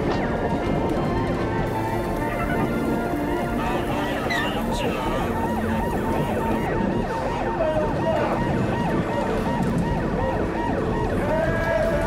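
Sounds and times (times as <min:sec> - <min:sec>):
emergency vehicle sirens: 0:00.0 - 0:12.0.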